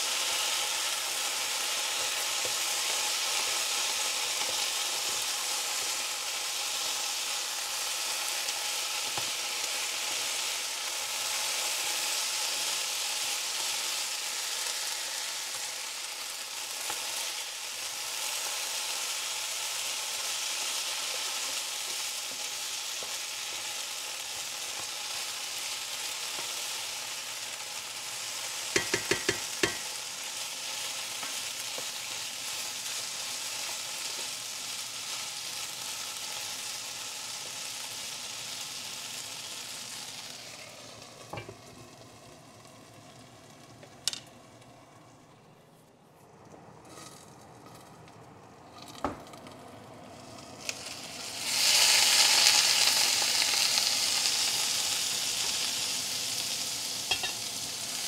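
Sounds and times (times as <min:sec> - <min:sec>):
potatoes sizzling in a skillet: 0:00.0 - 0:44.8, 0:50.0 - 0:58.0.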